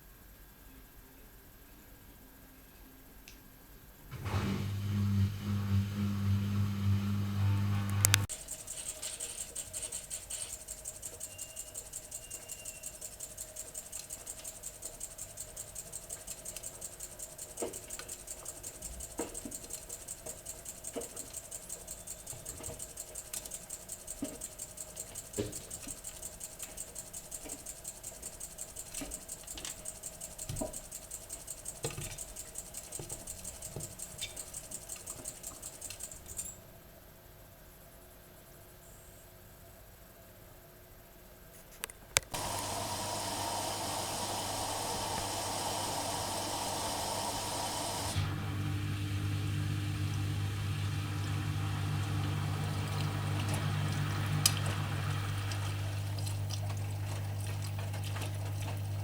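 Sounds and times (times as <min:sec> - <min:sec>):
washing machine hum: 0:04.0 - 0:36.3, 0:42.3 - 0:59.0
washing machine pulsing: 0:04.1 - 0:36.2, 0:42.3 - 0:59.0.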